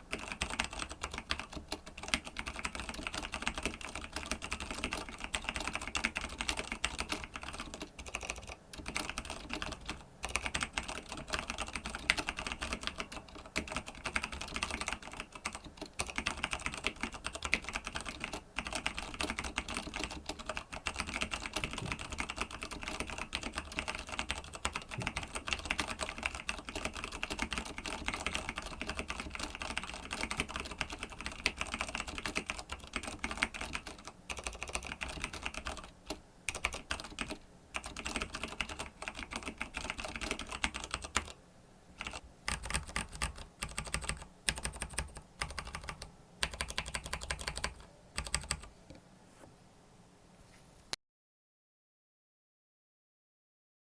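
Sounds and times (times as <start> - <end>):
mechanical keyboard typing: 0.1 - 41.4, 42.0 - 48.7.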